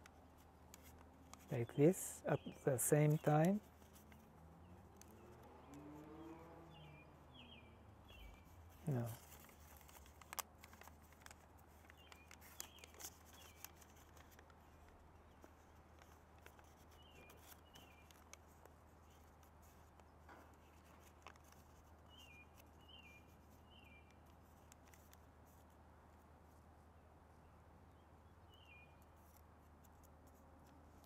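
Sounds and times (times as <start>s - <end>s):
paper crinkling while folded: 0.0s - 5.2s, 8.2s - 26.6s, 29.2s - 31.0s.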